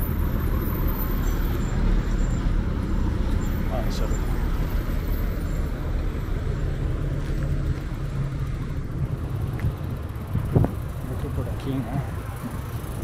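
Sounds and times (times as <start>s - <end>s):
low engine hum: 0.0s - 13.0s
traffic rumble: 0.0s - 13.0s.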